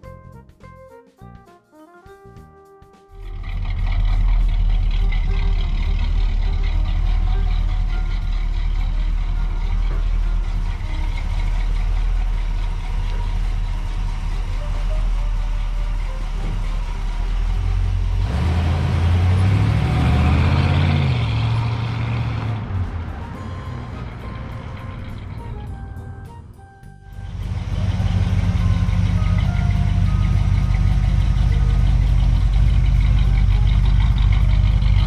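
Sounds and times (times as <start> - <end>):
truck engine idling: 3.2 - 35.0
truck pulling away: 3.2 - 35.0.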